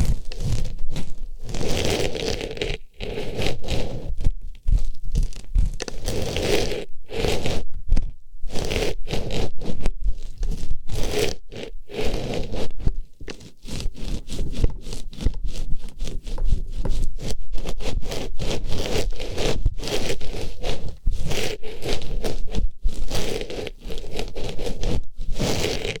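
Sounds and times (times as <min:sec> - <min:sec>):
scraping and rustling on microphone: 0:00.0 - 0:26.0.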